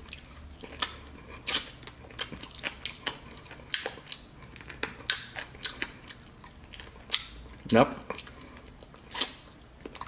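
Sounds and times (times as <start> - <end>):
crunchy chewing: 0.0 - 10.0.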